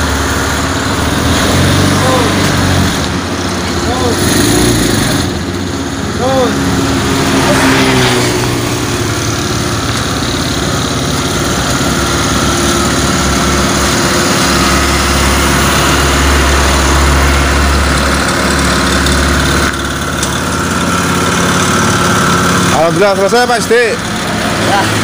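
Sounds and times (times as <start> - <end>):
motorcycle engine idling: 2.0 - 25.0.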